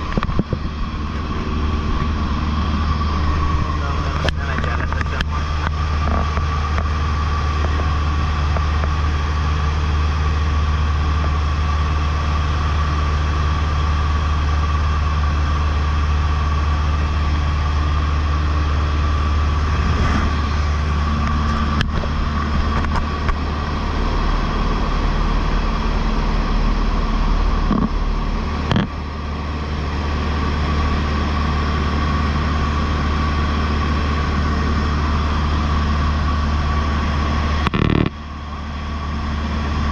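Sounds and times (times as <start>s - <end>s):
high whine: 0.0s - 39.9s
propeller plane engine droning: 0.0s - 39.9s.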